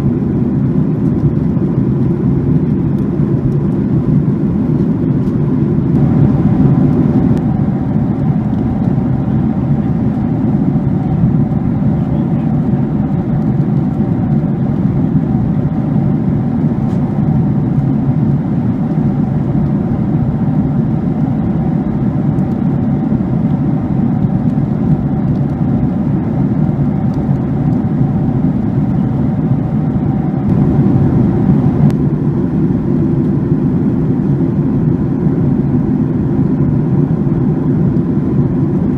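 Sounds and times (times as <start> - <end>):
faint steady whine: 0.0 - 38.9
jet cabin engine and airflow rush: 0.0 - 38.9.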